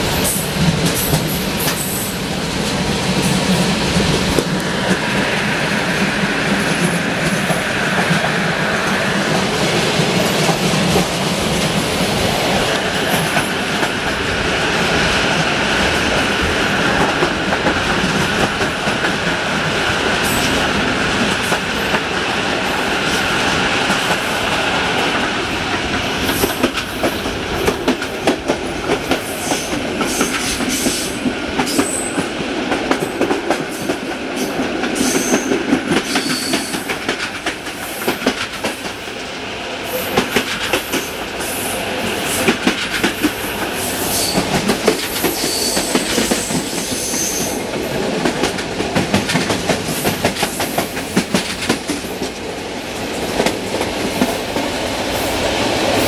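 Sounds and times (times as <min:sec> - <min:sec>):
train rolling on track: 0:00.0 - 0:56.0.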